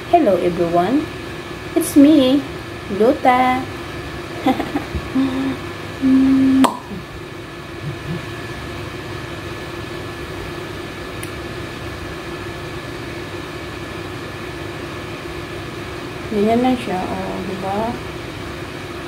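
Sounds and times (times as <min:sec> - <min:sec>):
appliance humming: 0:00.0 - 0:19.0
low hummed tones: 0:00.0 - 0:19.0.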